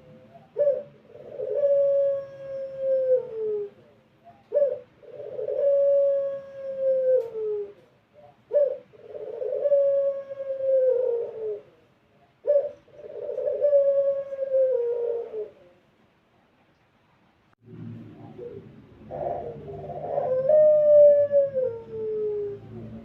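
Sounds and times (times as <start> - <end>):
dove cooing: 0.0 - 15.9, 18.0 - 23.0.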